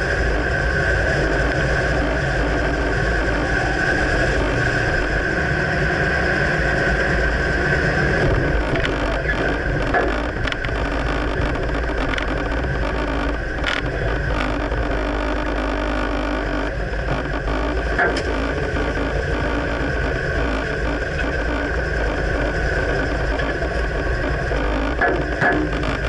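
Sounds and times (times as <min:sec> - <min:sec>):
pickup truck engine: 0:00.0 - 0:26.0
road noise: 0:00.0 - 0:26.0.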